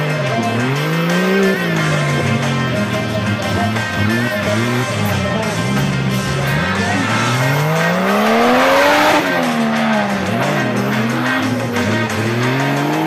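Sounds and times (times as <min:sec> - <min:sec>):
background music: 0:00.0 - 0:13.0
buggy engine revving hard: 0:00.0 - 0:13.0.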